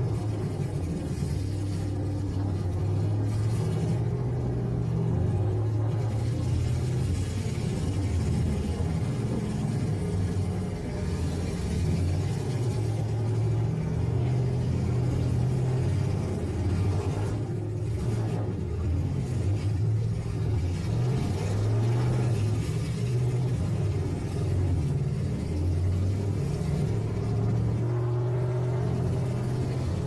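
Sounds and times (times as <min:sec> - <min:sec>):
pickup truck engines revving: 0:00.0 - 0:30.0.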